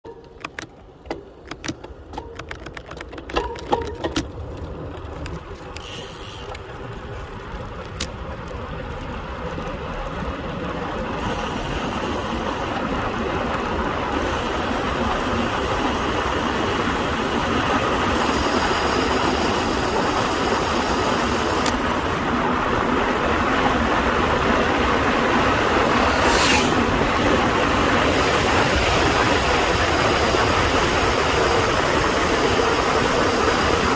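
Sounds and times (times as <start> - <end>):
bike tyre roar: 4.6 - 33.9.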